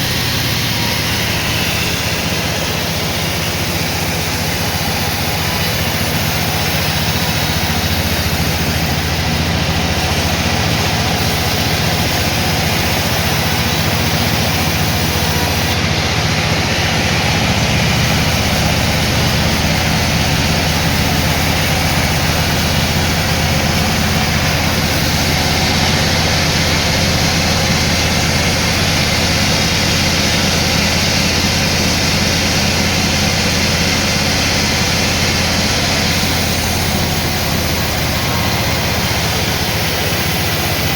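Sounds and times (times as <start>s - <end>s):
sawmill machinery hum: 0.0s - 40.9s.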